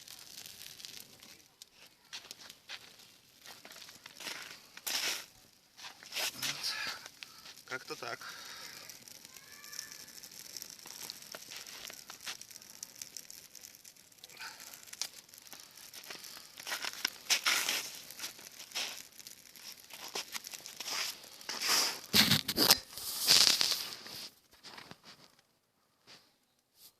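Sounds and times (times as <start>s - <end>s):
campfire crackling: 0.0s - 26.7s.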